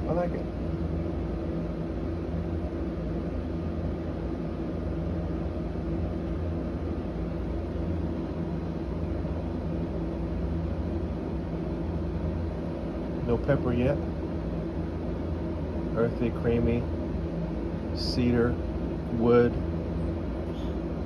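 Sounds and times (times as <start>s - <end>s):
mechanical hum and drone: 0.0s - 21.0s.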